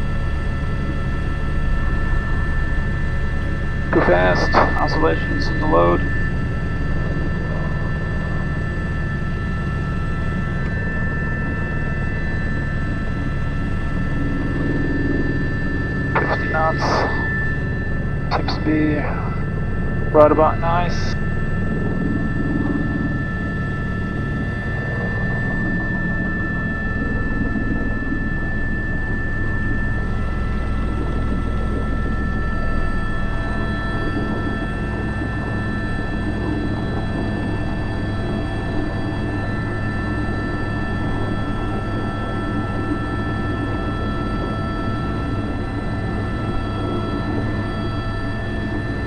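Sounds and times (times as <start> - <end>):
helicopter rotor beat: 0.0 - 49.0
high turbine whine: 0.0 - 49.0.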